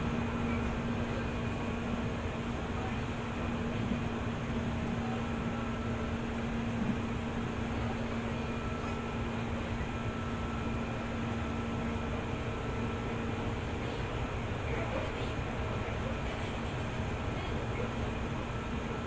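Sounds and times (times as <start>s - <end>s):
electric train car hum: 0.0s - 19.0s.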